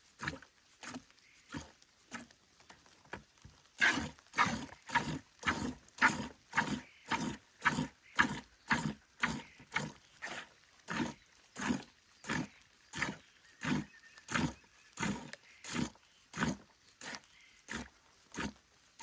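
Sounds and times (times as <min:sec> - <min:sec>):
milk squirting into a pail: 0:00.0 - 0:19.0.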